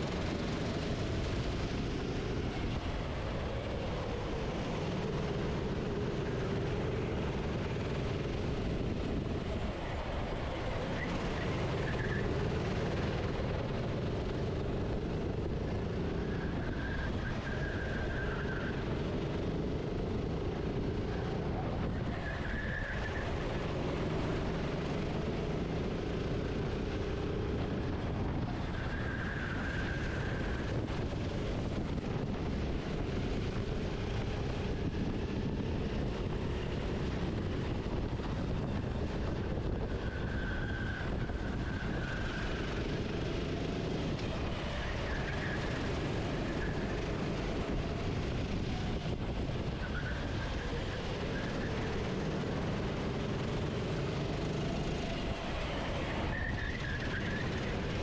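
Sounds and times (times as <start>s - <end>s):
racing kart engine revving: 0.0s - 58.0s
steady rushing noise: 0.0s - 58.0s.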